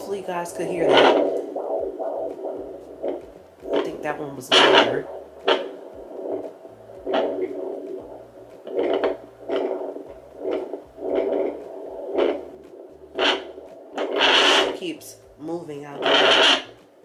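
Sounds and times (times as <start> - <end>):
fetal doppler whooshing pulses: 0.0 - 17.0.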